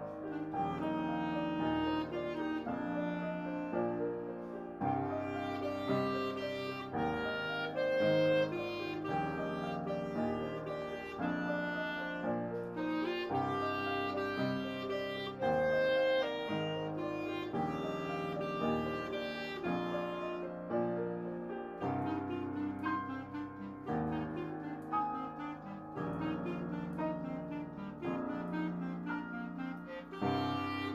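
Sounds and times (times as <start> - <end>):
clarinet melody: 0.0 - 30.9
piano chords: 0.0 - 30.9.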